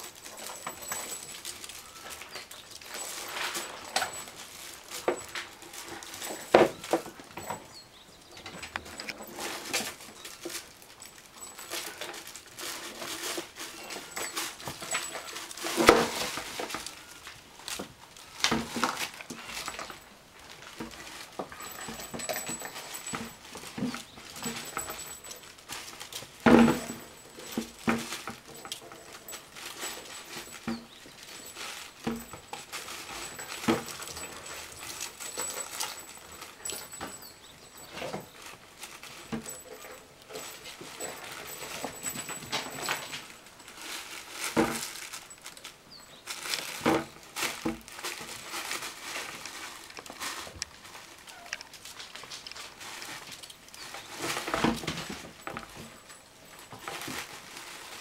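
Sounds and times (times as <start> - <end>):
claws scratching wicker: 0.0 - 58.0.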